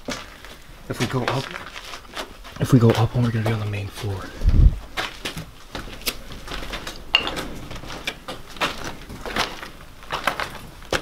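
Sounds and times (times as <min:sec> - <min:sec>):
footsteps on wooden stairs and rubble: 0:00.0 - 0:11.0.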